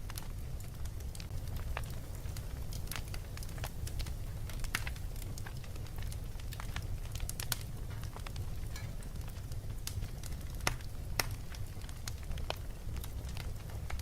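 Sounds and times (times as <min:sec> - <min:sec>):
fire crackling and popping: 0:00.0 - 0:14.0
steady low rumble: 0:00.0 - 0:14.0.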